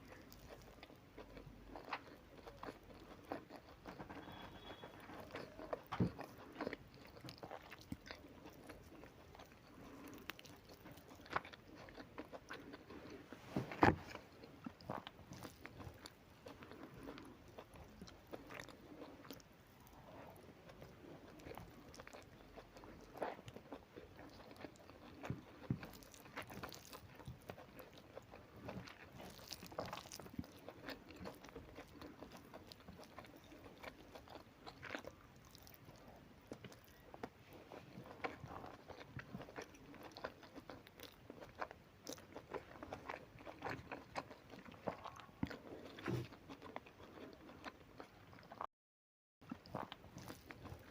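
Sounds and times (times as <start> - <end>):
person chewing food: 0.0 - 48.7, 49.4 - 50.9.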